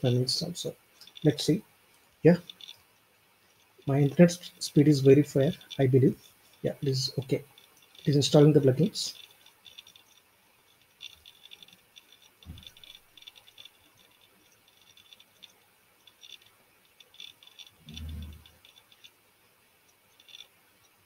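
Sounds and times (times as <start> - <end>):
faint clicking and rattling: 0.0 - 21.0.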